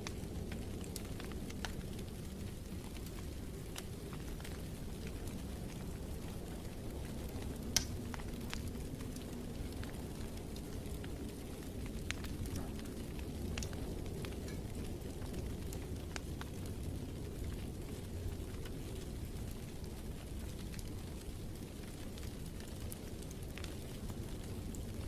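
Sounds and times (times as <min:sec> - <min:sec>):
fire pops and snaps: 0:00.0 - 0:25.0
wood fire crackling: 0:00.0 - 0:25.0.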